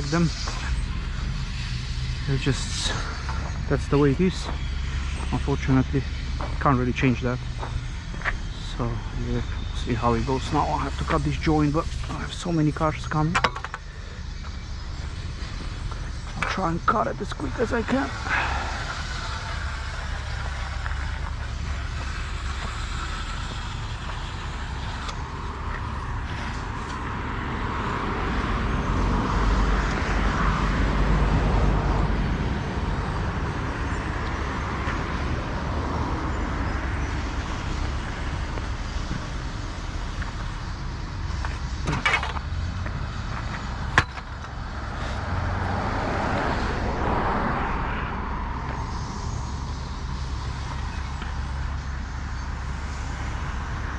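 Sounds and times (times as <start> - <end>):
cars passing: 0.0 - 53.9.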